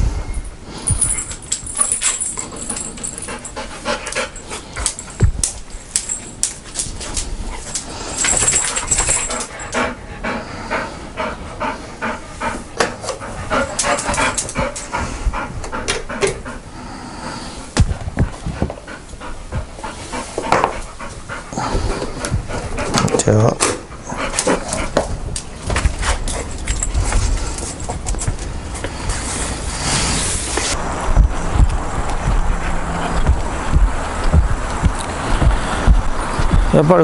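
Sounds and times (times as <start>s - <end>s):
dog panting: 0.8s - 37.0s.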